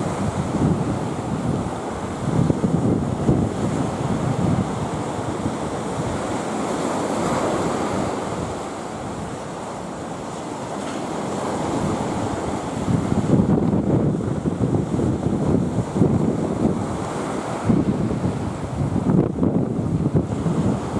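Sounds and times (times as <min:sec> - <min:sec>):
sea surf breaking: 0:00.0 - 0:20.9
wind buffeting microphone: 0:00.0 - 0:20.9.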